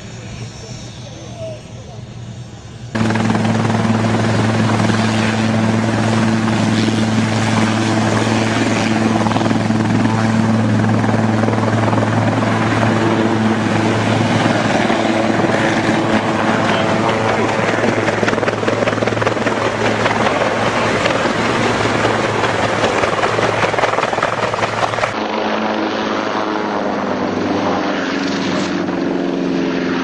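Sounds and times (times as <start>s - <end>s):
helicopter hovering: 0.0s - 30.0s.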